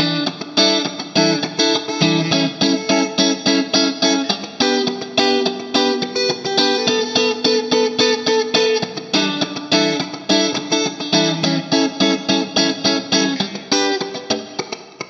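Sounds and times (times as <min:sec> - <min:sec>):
electric guitar picked chords: 0:00.0 - 0:15.0.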